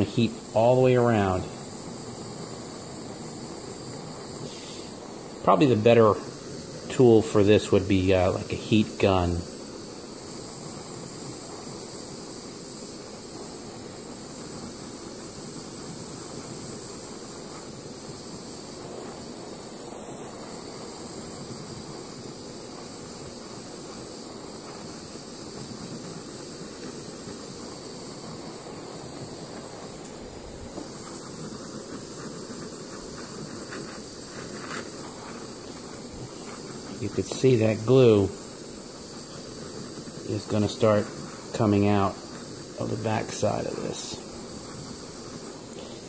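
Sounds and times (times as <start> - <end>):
gas torch hissing: 0.0 - 46.0.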